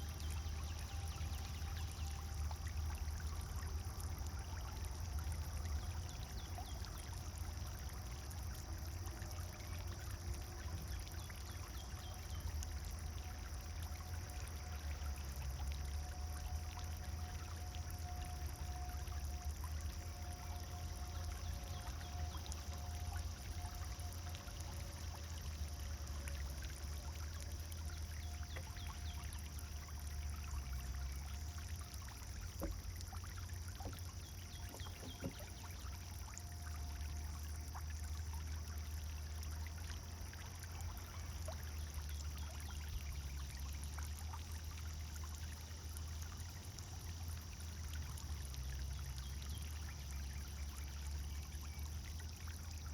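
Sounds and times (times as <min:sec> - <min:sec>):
fountain water splashing: 0:00.0 - 0:52.9.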